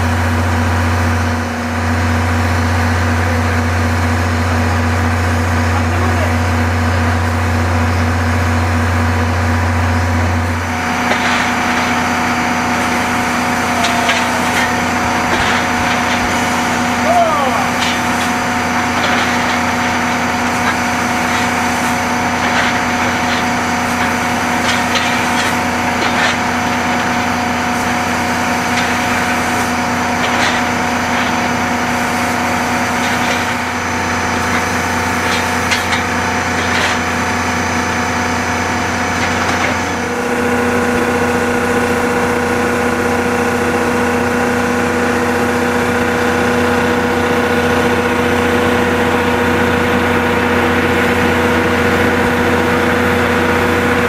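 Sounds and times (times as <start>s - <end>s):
steam locomotive whine and hiss: 0.0s - 54.0s.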